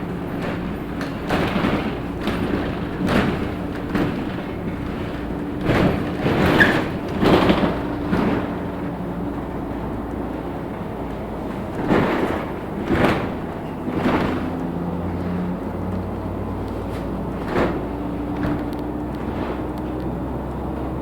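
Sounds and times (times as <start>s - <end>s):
bus body thuds and rattles: 0.0s - 21.0s
bus engine humming: 0.0s - 21.0s.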